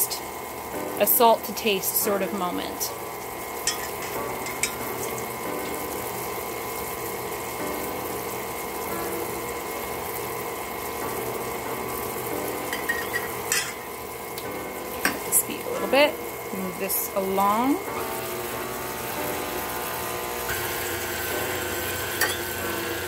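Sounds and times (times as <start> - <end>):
stand mixer motor running: 2.9 - 23.0.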